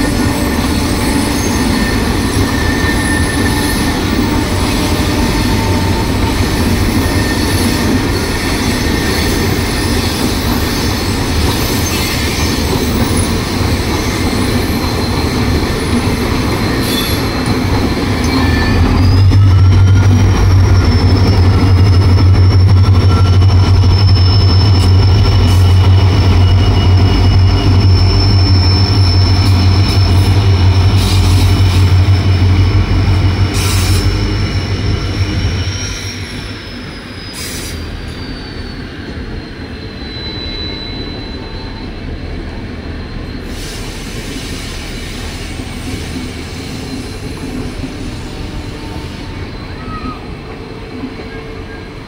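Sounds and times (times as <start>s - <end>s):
diesel locomotive engine droning: 0.0s - 52.0s
high wheel squeal: 0.0s - 52.0s.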